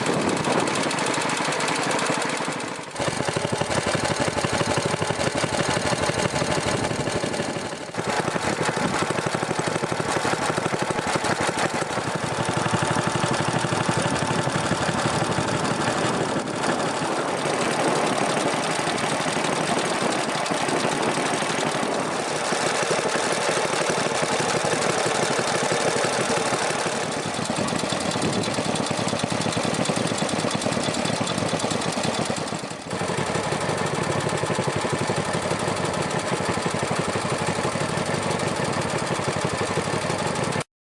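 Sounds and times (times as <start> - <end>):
stationary engines idling: 0.0 - 40.6.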